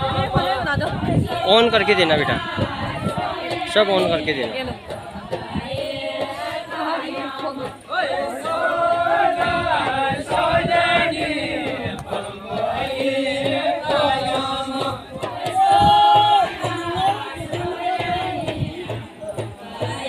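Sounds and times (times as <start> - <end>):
chorus singing folk song: 0.0 - 20.0
drum beating: 0.0 - 20.0.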